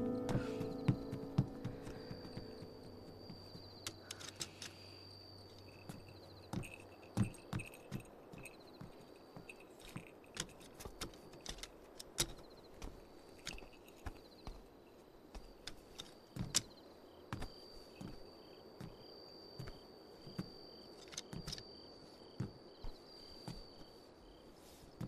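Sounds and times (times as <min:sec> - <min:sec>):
soft footsteps: 0:00.0 - 0:04.1, 0:05.5 - 0:25.0
crickets chirping: 0:00.0 - 0:25.0.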